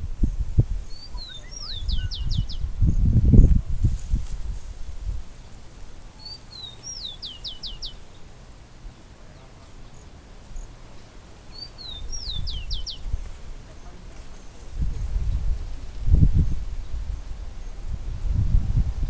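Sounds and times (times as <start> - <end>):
songbird singing: 0.0 - 3.7, 4.9 - 18.1
low rumble of wind: 0.0 - 19.0.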